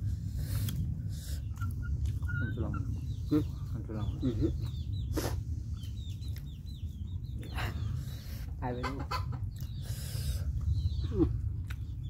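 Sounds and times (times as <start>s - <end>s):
chickens clucking: 0.2s - 12.0s.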